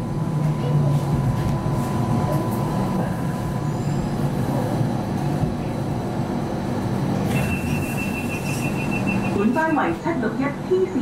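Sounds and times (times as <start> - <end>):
tram running rumble: 0.0 - 11.0.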